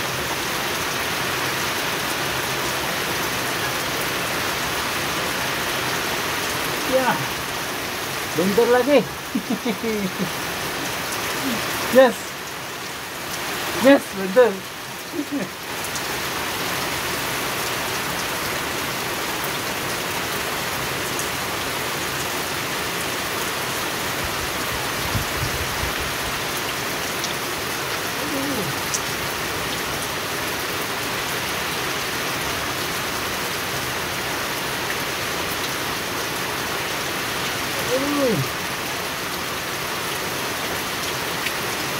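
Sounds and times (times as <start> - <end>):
rain falling on pond water: 0.0 - 41.9.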